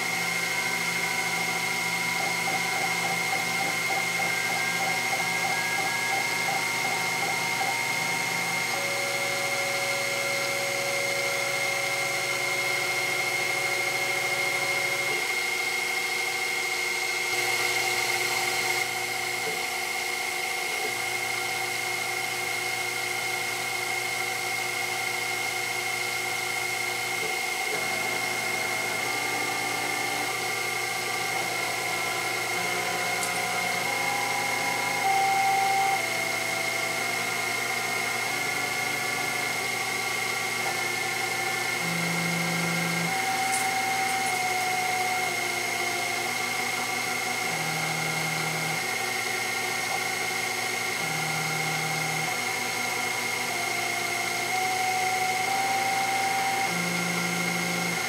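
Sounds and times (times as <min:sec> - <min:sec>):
stepper motors humming: 0:00.0 - 0:19.6, 0:26.6 - 0:58.0
milling spindle whine: 0:00.0 - 0:58.0.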